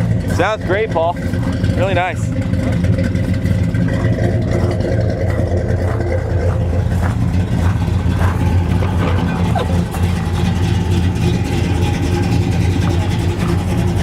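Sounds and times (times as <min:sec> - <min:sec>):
engine idling with deep rumble: 0:00.0 - 0:14.0.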